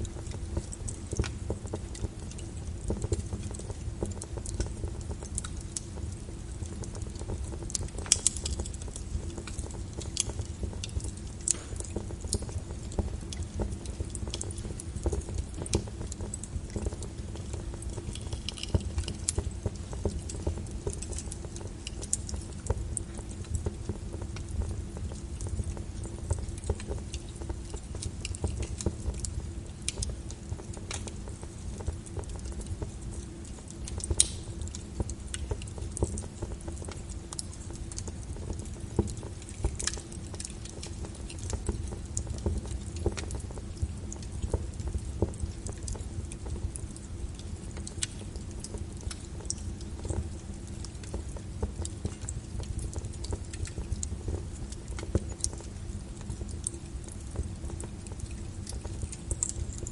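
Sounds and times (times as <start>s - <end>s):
firewood crackling in a fireplace: 0.0s - 59.9s.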